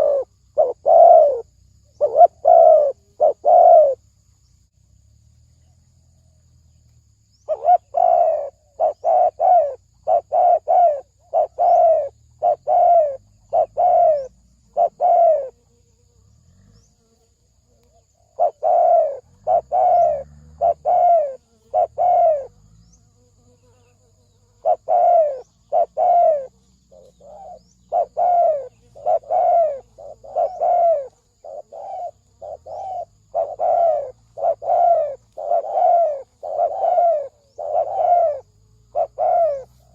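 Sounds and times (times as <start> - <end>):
dove cooing: 0.0 - 4.0, 7.4 - 15.6, 17.9 - 23.0, 23.8 - 39.9.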